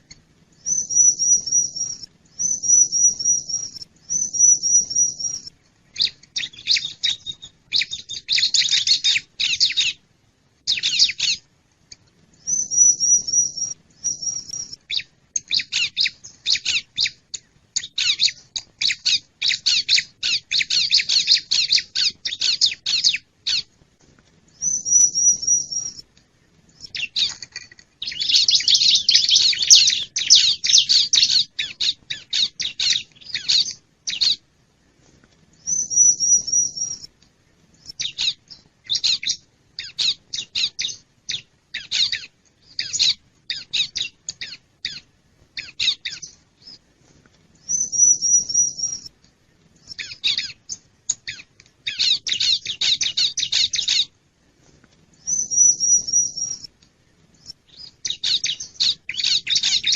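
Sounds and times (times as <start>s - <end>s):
bird trilling and chattering: 0.6s - 10.0s, 10.7s - 11.4s, 12.4s - 23.7s, 24.6s - 26.0s, 26.8s - 34.4s, 35.6s - 37.1s, 37.8s - 45.0s, 45.6s - 46.8s, 47.7s - 49.1s, 49.8s - 54.1s, 55.2s - 56.7s, 57.4s - 59.9s.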